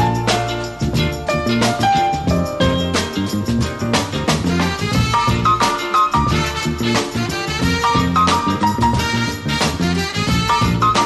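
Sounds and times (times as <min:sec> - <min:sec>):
upbeat swing music with brass: 0:00.0 - 0:11.0.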